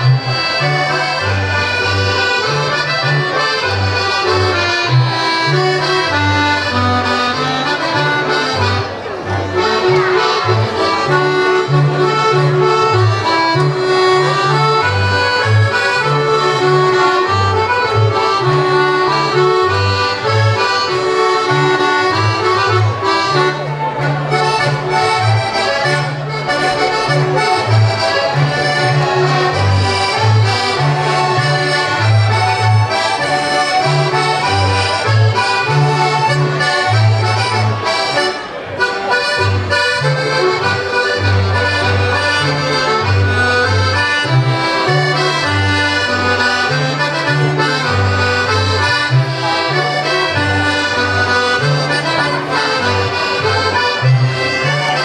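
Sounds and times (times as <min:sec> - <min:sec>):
accordion folk dance melody: 0:00.0 - 0:55.0.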